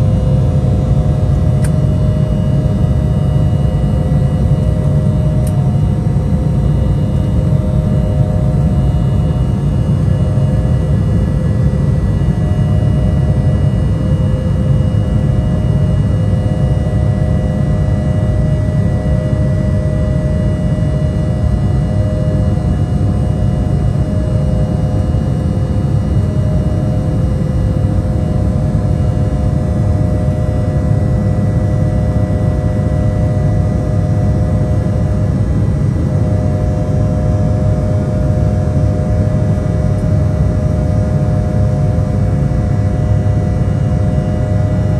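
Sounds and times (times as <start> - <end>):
constant whining tones: 0.0 - 44.9
jet engines and rushing air roar: 0.0 - 44.9.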